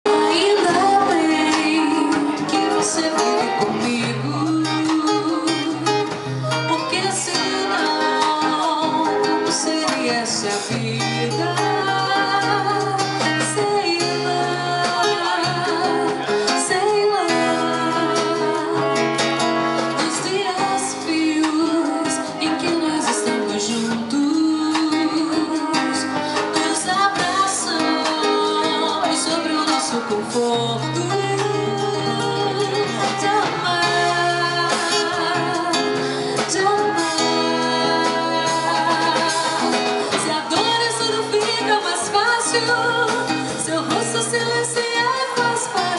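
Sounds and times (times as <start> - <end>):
acoustic guitar: 0.0 - 45.9
drums: 0.0 - 45.9.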